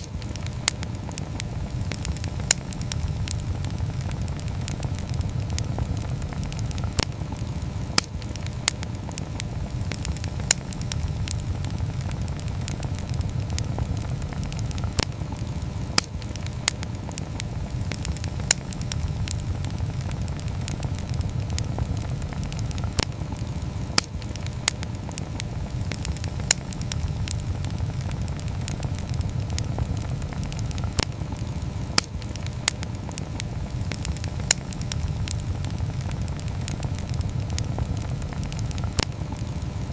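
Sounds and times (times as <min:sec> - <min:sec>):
campfire crackling and popping: 0:00.0 - 0:39.9
low rumble: 0:00.0 - 0:39.9.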